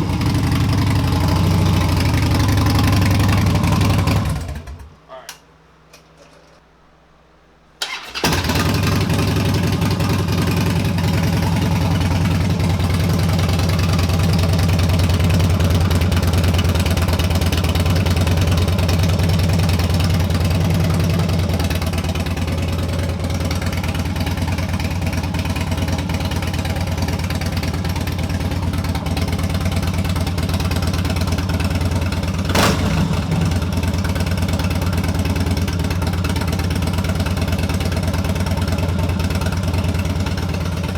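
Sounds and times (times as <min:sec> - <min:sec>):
motorcycle engine idling: 0:00.0 - 0:04.9, 0:07.9 - 0:40.9.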